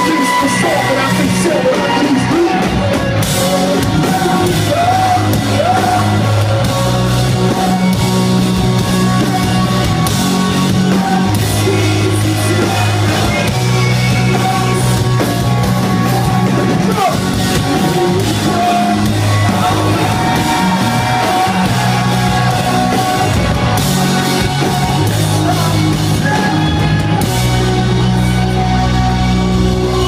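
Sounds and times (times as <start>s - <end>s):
crowd singing and yelling: 0.0s - 30.0s
rock band playing live: 0.0s - 30.0s.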